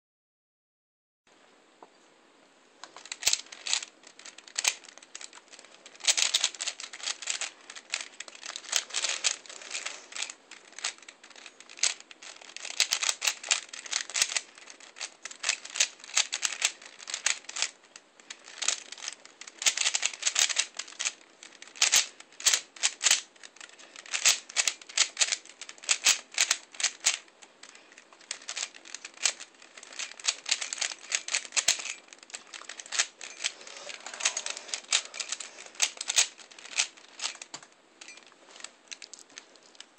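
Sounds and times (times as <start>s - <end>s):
puzzle cube clicking: 2.8s - 39.9s.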